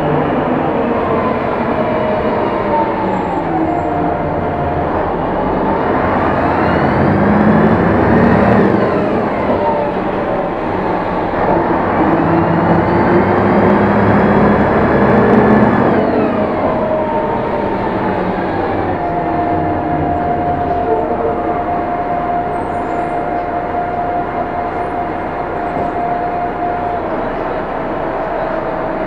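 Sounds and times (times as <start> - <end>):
bus engine and transmission whine: 0.0 - 29.0.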